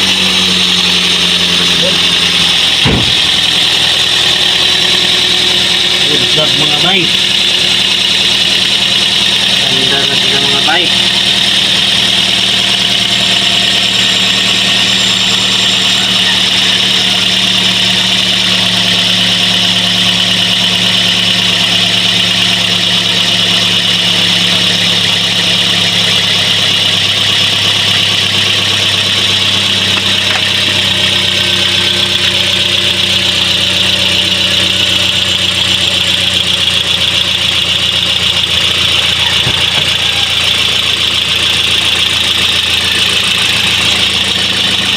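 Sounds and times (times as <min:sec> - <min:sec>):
car engine idling: 0:00.0 - 0:44.9
steady high whine: 0:00.0 - 0:44.9.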